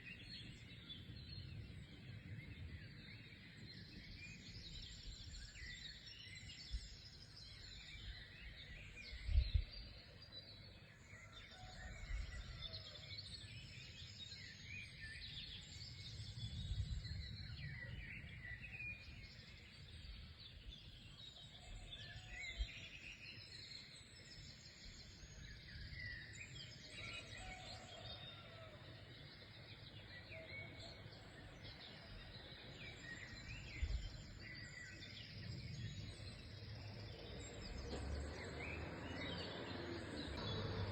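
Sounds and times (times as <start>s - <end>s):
birds singing and chirping: 0.0s - 10.7s, 13.3s - 40.9s.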